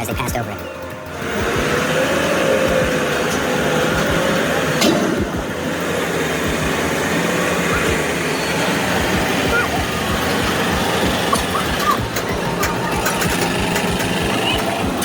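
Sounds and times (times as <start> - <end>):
heavy truck engine running: 0.0 - 15.0
outdoor noise: 0.0 - 15.0.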